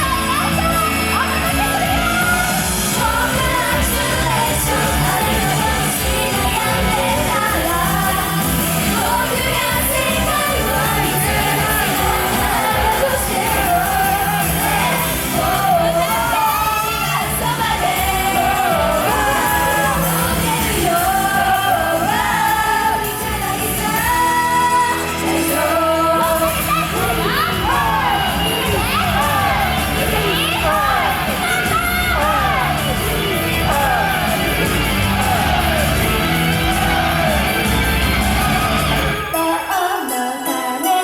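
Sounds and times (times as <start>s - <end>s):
backing track with steady beat: 0.0s - 40.2s
group singing pop song: 0.0s - 41.0s.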